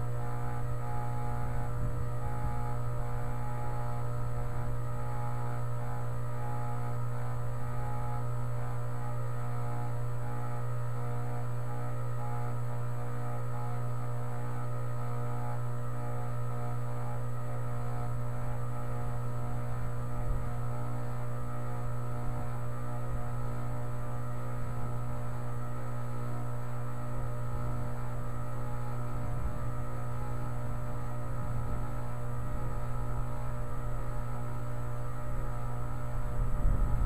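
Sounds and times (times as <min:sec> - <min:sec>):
heat pump electrical hum: 0:00.0 - 0:37.0.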